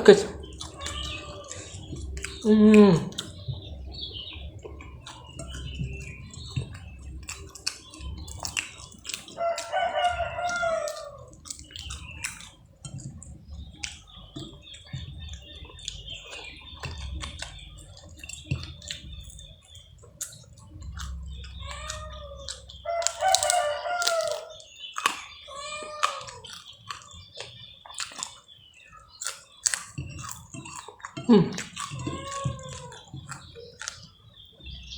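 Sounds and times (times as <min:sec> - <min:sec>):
person chewing food: 0:00.0 - 0:34.9
thin high chirping: 0:00.0 - 0:34.9.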